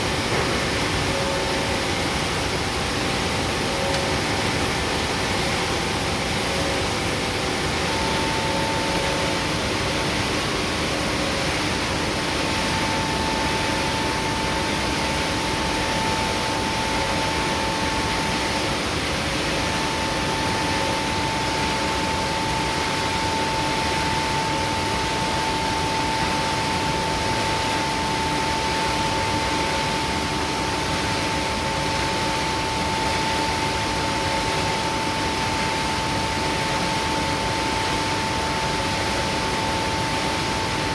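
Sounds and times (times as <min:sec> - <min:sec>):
steady machine whine: 0:00.0 - 0:40.9.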